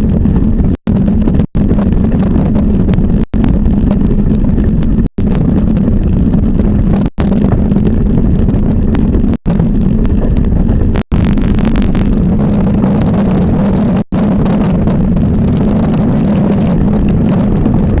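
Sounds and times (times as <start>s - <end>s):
ice yacht runners rumbling: 0.0s - 18.0s
wind buffeting microphone: 0.0s - 18.0s.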